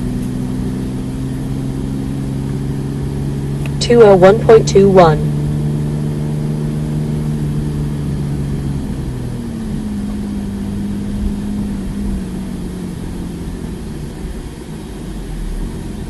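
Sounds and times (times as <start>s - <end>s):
car engine running inside cabin: 0.0s - 16.0s.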